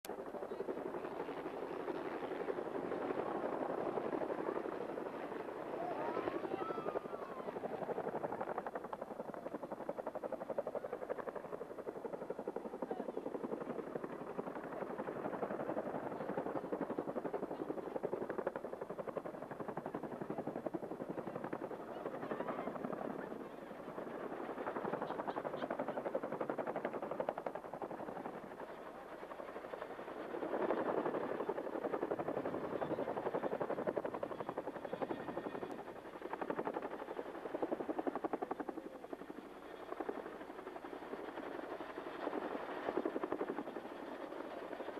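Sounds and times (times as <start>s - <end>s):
helicopter rotor chopping: 0.1s - 44.9s.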